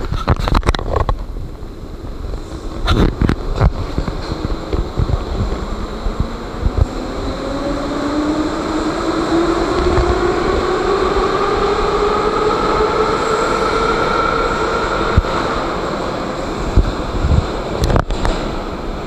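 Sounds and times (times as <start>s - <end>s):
wheels rumbling on rails: 0.0s - 19.0s.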